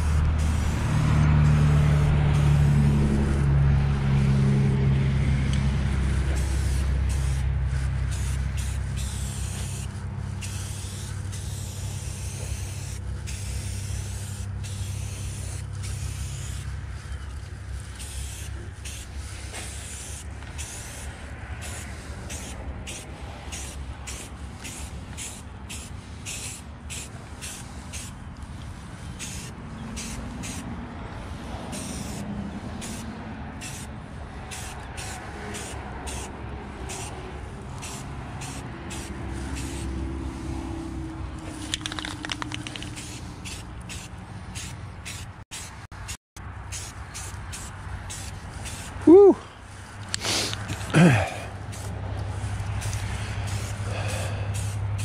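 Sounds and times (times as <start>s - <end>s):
spray paint can hissing: 0.0s - 3.5s, 5.5s - 55.0s.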